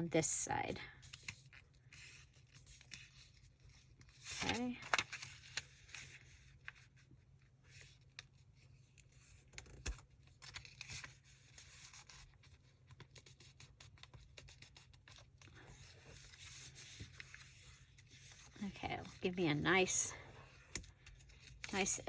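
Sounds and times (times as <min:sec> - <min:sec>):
paper rustling and creasing: 0:01.0 - 0:22.0.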